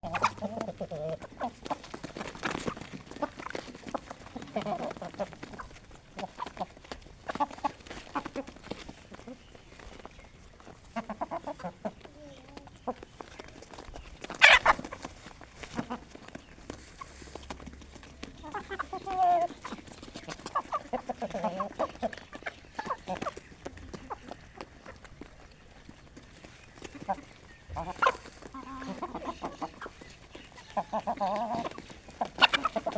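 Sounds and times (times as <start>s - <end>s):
hens clucking softly: 0.0s - 32.9s.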